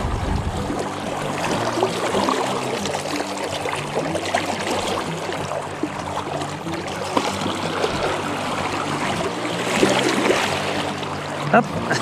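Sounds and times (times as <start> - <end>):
river current rushing: 0.0 - 12.0
small splashes and trickles: 0.0 - 12.0.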